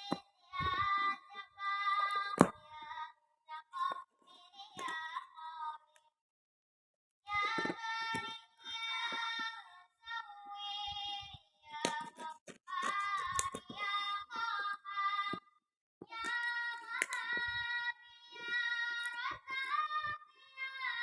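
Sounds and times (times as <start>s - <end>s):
high-pitched singing voice: 0.0s - 6.1s, 7.3s - 21.0s.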